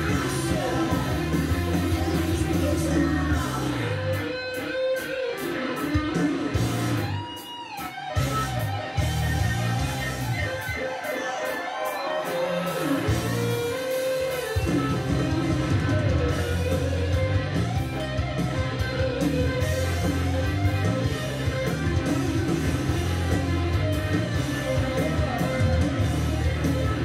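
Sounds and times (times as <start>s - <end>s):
guitar-led music over loudspeakers: 0.0s - 27.0s.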